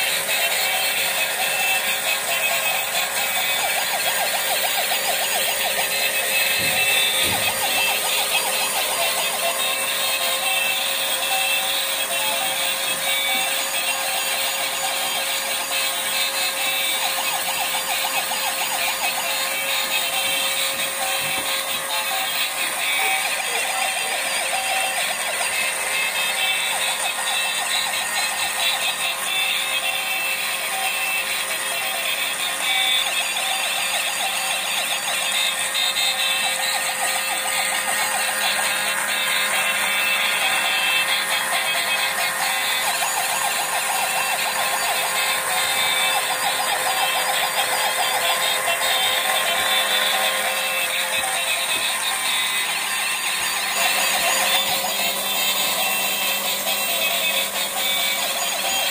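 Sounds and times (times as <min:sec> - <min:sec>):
toy electronic siren: 0:00.0 - 0:58.9.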